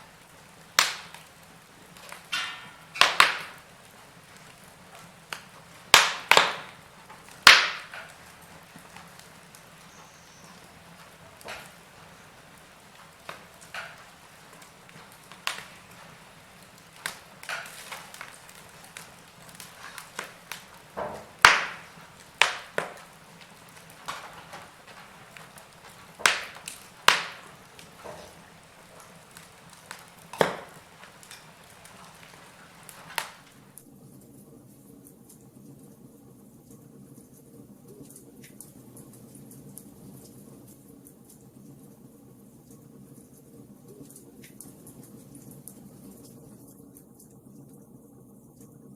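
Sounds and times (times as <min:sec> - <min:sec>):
low hiss of fire: 0:00.0 - 0:48.9
wood fire crackling and popping: 0:00.0 - 0:48.9.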